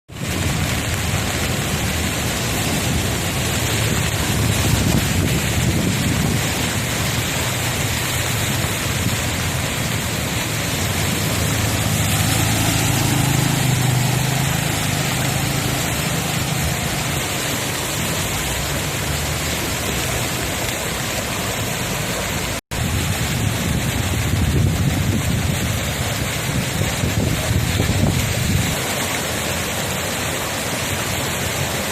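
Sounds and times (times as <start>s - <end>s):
heavy rain on flooded street: 0.1s - 31.9s
low vehicle rumble: 0.2s - 31.8s.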